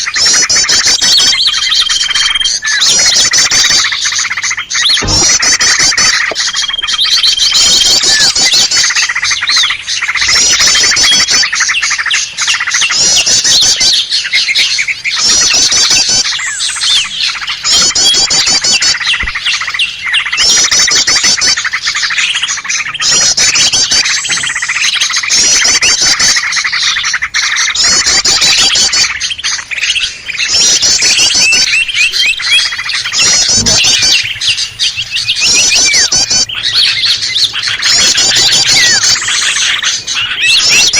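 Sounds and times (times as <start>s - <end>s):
high rapid bird trill: 0.0s - 40.9s
songbirds chattering and calling: 0.0s - 40.9s.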